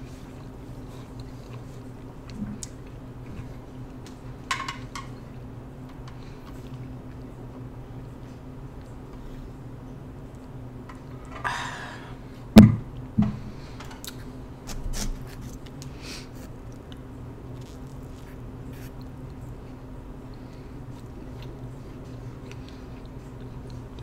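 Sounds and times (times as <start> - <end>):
soft chewing: 0.0 - 4.4, 5.1 - 11.2, 15.2 - 24.0
steady low hum: 0.0 - 24.0.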